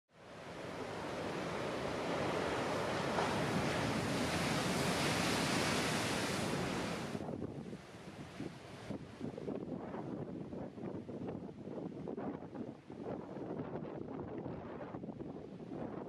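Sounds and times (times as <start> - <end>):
wind gusting on microphone: 0.6 - 16.0.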